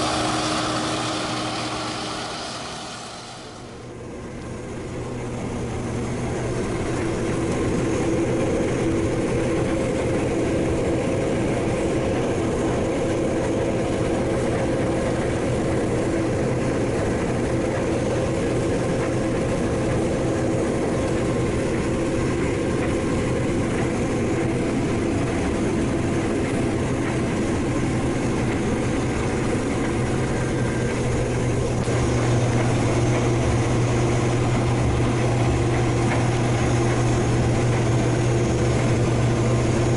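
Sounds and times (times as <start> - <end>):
diesel farm machinery droning: 0.0 - 39.9.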